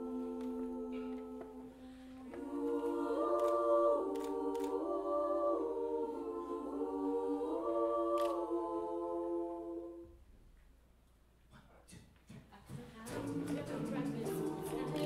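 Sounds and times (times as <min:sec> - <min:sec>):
a cappella group singing: 0:00.0 - 0:10.3, 0:12.3 - 0:15.0.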